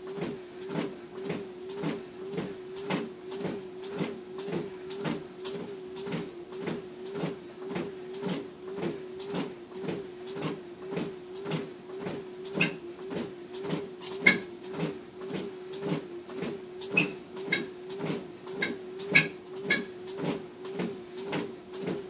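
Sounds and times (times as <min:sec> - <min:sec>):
treadmill motor hum: 0:00.0 - 0:22.0
footsteps thudding on belt: 0:00.1 - 0:22.0.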